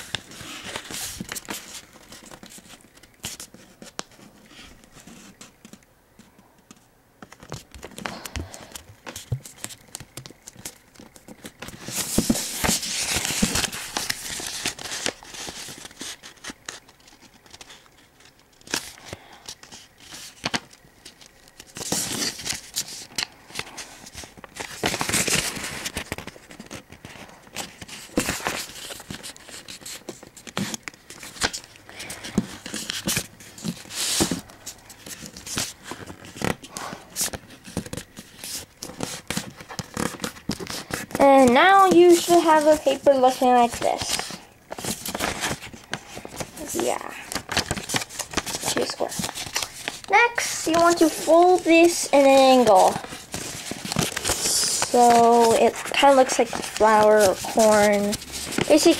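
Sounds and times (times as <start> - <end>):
paper rustling and crinkling: 0.0 - 58.9
paper creasing clicks: 6.7 - 58.9.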